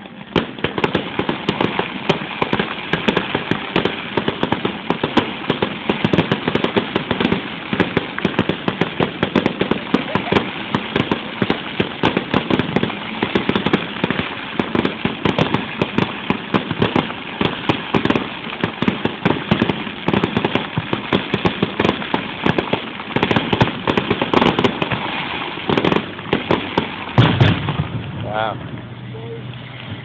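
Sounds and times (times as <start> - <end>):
fireworks bangs and pops: 0.0 - 30.0.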